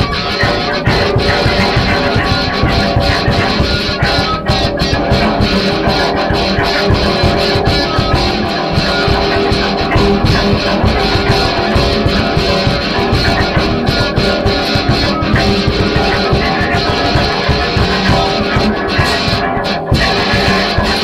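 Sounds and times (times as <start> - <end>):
bass guitar: 0.0 - 21.0
electric guitars: 0.0 - 21.0.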